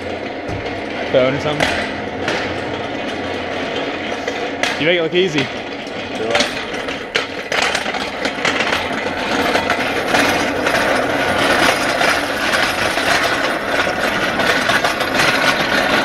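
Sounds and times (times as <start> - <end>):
hard wheels rattling over pavement: 0.0 - 16.0
heavy engine: 0.0 - 16.0.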